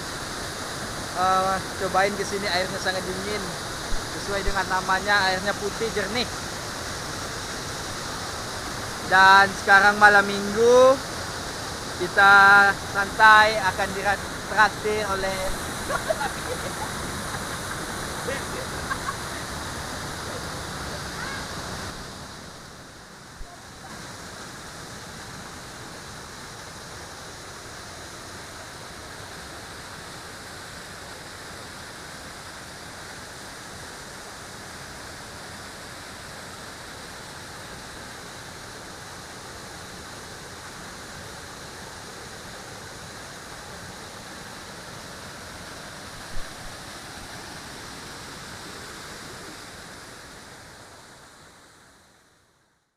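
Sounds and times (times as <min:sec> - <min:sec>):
waterfall rushing: 0:00.0 - 0:51.8.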